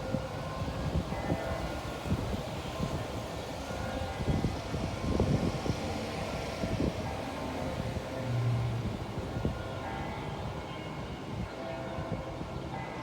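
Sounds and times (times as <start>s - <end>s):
wind buffeting microphone: 0.0s - 12.8s
distant church bells ringing: 0.0s - 13.0s.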